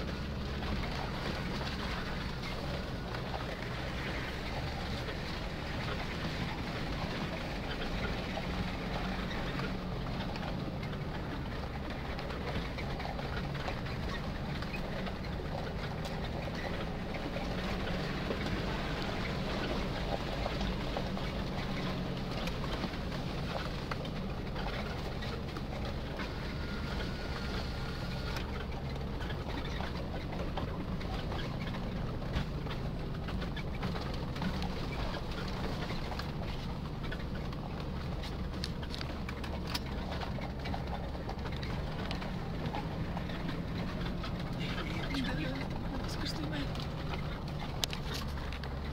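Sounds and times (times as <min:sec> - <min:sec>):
vehicle engine droning: 0:00.0 - 0:48.9.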